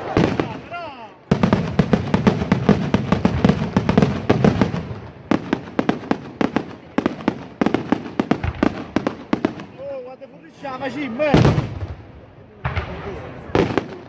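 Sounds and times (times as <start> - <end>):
fireworks bangs and cracks: 0.0 - 10.1, 10.9 - 14.0.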